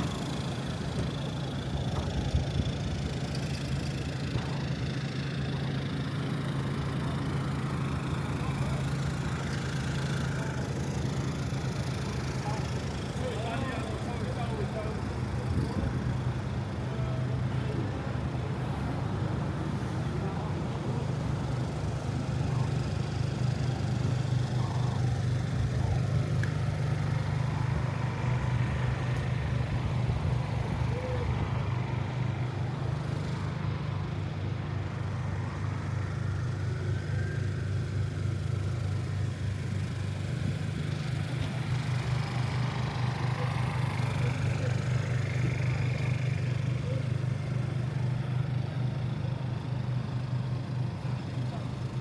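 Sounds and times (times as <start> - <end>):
traffic hum: 0.0 - 52.0.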